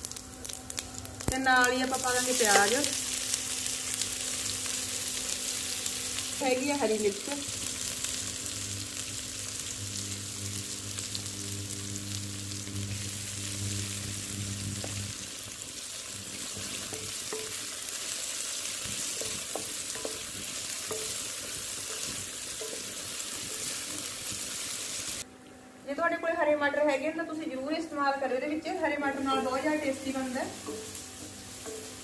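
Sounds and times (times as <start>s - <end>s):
onions sizzling in hot oil: 0.0s - 25.2s, 28.4s - 32.0s.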